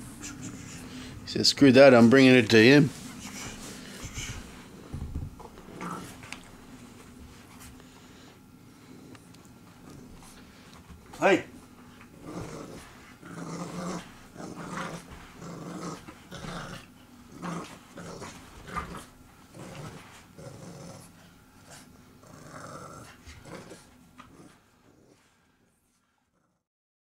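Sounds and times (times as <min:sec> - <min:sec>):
puppy growling: 0:00.0 - 0:06.7, 0:08.6 - 0:10.7, 0:11.9 - 0:25.4.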